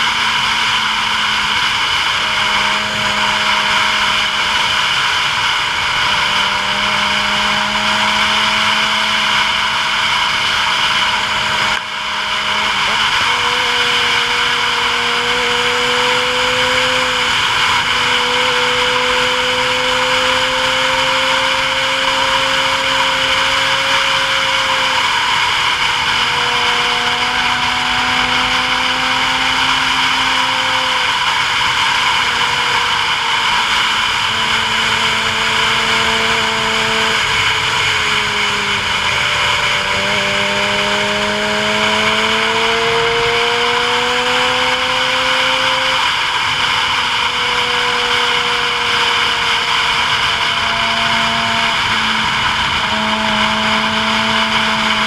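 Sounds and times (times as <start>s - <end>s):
road noise: 0.0s - 55.0s
vehicle engine: 0.0s - 55.0s.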